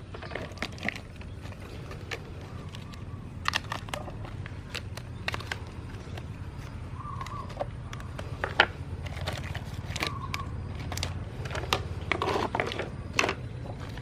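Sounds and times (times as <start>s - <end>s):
biscuits crunching and cracking: 0.0s - 14.0s.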